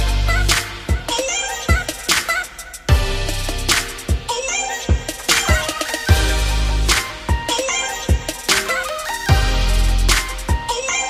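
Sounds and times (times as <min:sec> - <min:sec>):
drum beat: 0:00.0 - 0:10.8.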